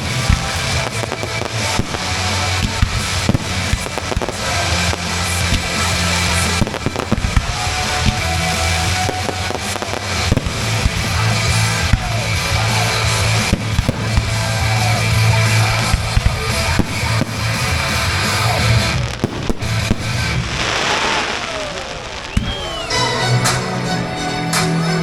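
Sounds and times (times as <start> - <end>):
fireworks bangs and crackling: 0.0 - 24.1
music playing: 0.0 - 25.0.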